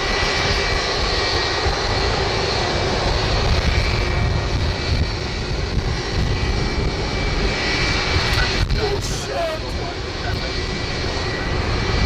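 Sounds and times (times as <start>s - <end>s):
high-pitched engine whine: 0.0s - 12.0s
jet engines roaring: 0.0s - 12.0s.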